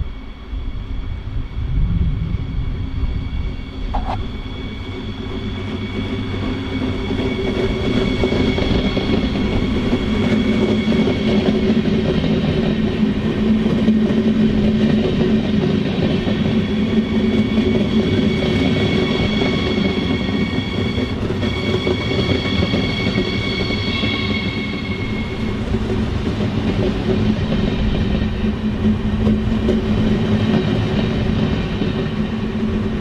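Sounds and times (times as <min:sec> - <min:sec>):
electric train wheel rumble: 0:00.0 - 0:33.0
high whine of train: 0:00.0 - 0:33.0.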